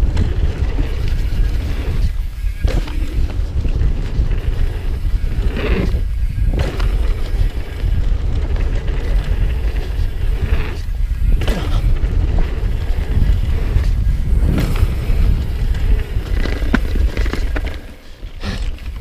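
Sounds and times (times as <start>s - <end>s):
bike tyres rolling on dirt trail: 0.0s - 19.0s
wind buffeting microphone: 0.0s - 19.0s.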